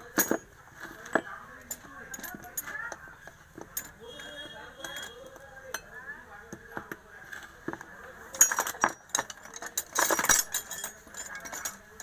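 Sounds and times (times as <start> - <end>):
small metal parts clinking: 0.0 - 7.0, 8.3 - 12.0.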